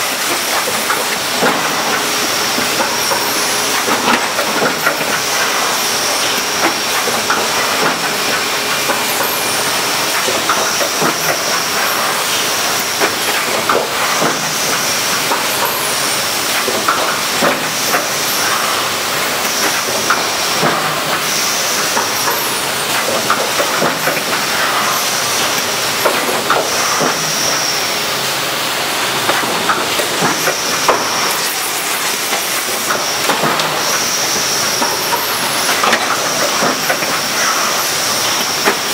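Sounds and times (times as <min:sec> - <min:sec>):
machine clicks and clacks: 0:00.0 - 0:28.1, 0:29.0 - 0:38.9
packaging machinery hissing: 0:00.0 - 0:38.9.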